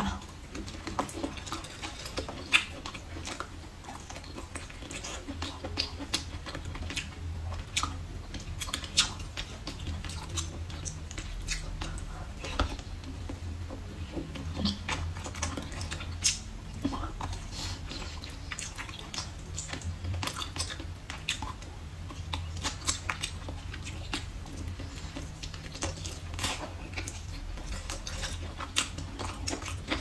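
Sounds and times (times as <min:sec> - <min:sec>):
chewing and biting: 0:00.3 - 0:30.0.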